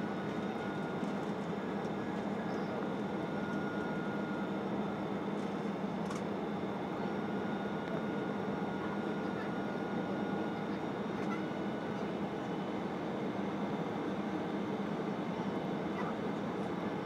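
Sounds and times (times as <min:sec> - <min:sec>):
airliner cabin drone: 0:00.0 - 0:17.0
faint steady whines: 0:00.0 - 0:17.0.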